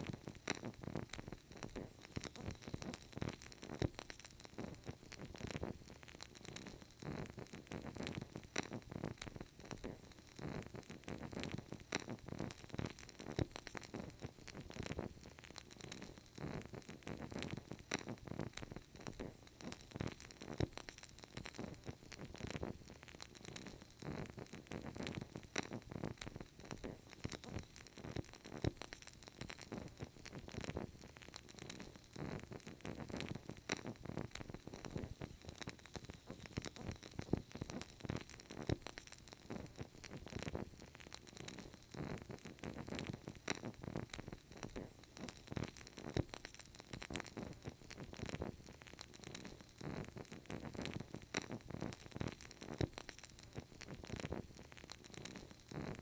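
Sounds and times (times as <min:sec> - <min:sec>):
candle crackling: 0:00.0 - 0:56.0.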